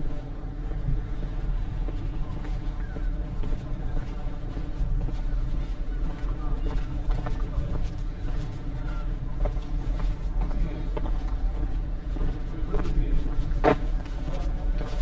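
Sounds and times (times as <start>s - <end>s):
faint street sounds: 0.0s - 15.0s
footsteps: 0.0s - 15.0s.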